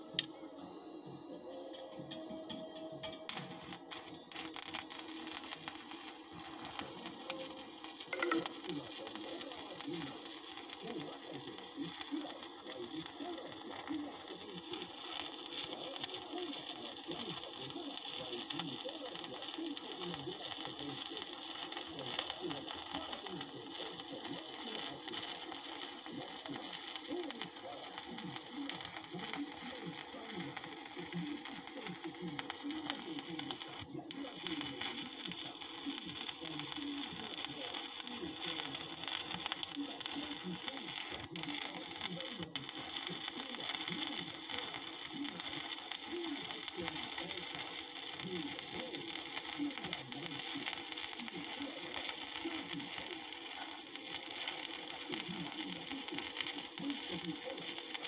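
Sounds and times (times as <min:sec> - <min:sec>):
welding arc crackling: 0:00.0 - 0:00.3, 0:01.0 - 0:58.0.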